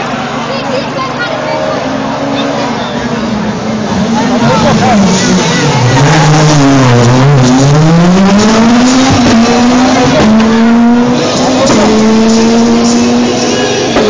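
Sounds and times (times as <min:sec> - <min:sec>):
rally car engine revving: 0:01.4 - 0:14.0.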